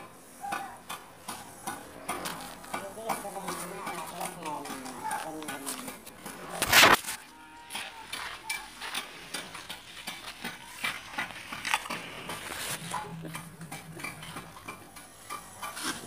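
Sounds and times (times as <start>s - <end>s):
metal trowel scraping gravel: 1.4s - 16.0s.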